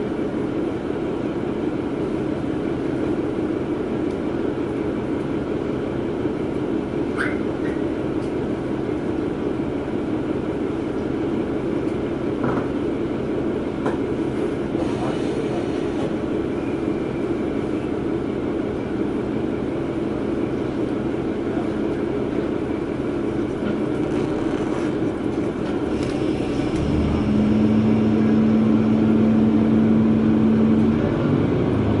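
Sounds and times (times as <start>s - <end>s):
railcar engine and wheels rumbling: 0.0s - 32.0s
steady engine hum: 0.0s - 32.0s.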